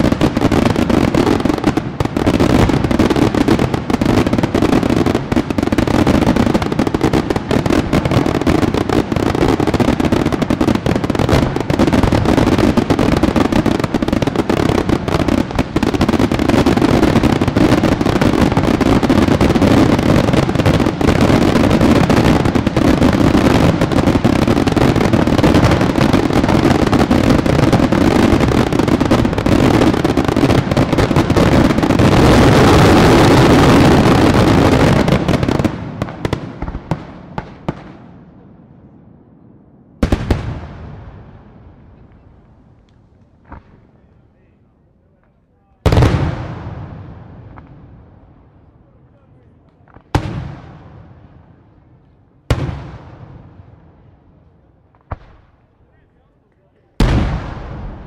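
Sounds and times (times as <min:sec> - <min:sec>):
fireworks bursts and bangs: 0:00.0 - 0:39.0, 0:40.0 - 0:58.0.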